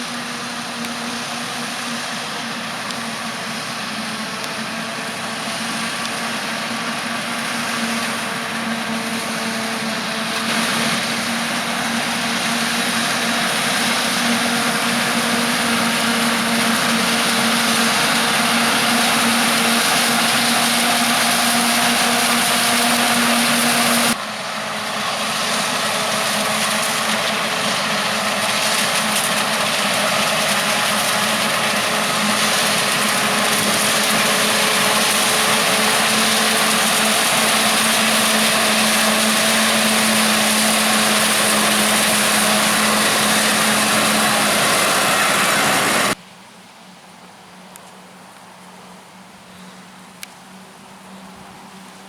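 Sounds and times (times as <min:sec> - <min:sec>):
harvesting machinery drone and hiss: 0:00.0 - 0:46.2
steady machine whine: 0:00.0 - 0:46.2.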